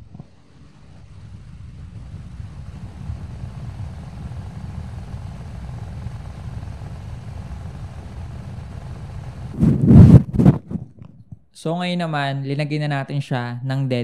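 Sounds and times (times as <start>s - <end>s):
fan wind buffeting microphone: 0.0s - 11.5s.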